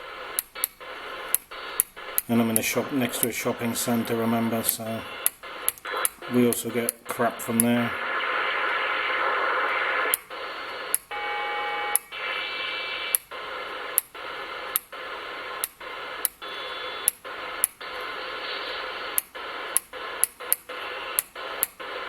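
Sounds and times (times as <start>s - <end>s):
radio static hiss: 0.0s - 22.0s
sharp clicks: 0.4s - 11.1s, 11.9s - 21.9s.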